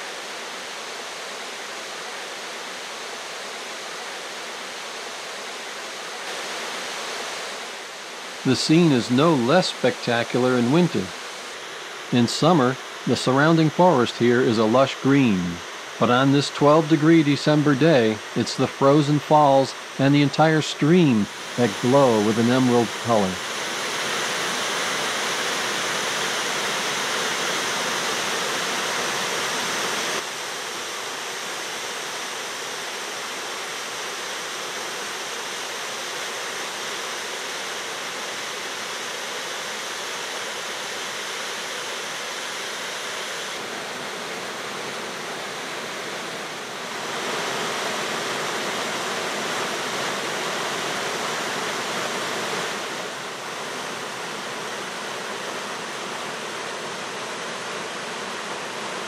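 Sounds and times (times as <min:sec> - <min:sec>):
water rushing down a waterfall: 0:00.0 - 0:59.0.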